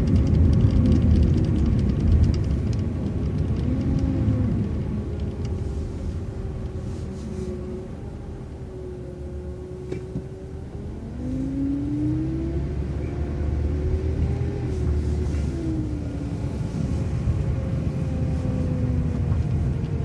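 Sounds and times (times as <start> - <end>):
bus drivetrain whine: 0.0 - 20.0.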